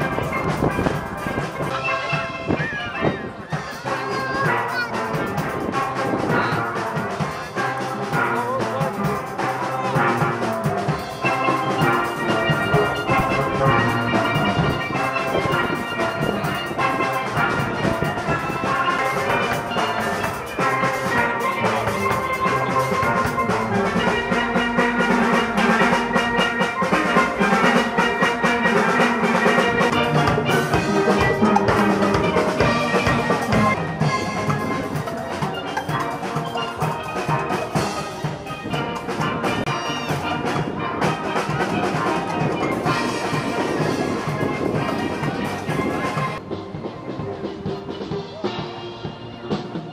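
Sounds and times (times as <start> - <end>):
steel band playing: 0.0 - 49.9.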